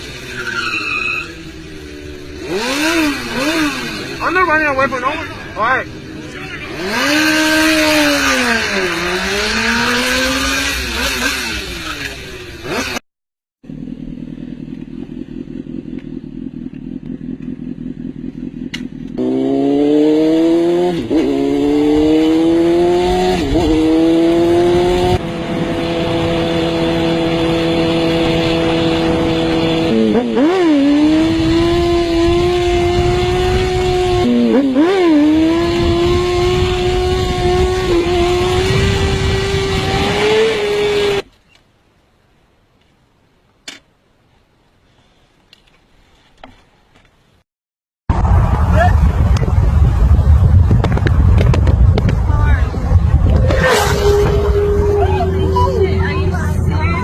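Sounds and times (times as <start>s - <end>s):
motorcycle engine: 0.0s - 13.0s, 13.6s - 41.3s, 48.1s - 57.0s.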